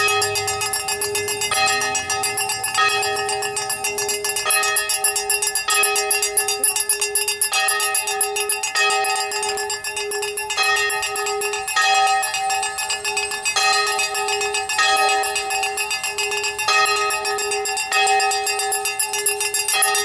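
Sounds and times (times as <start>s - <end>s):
bells ringing: 0.0s - 20.0s.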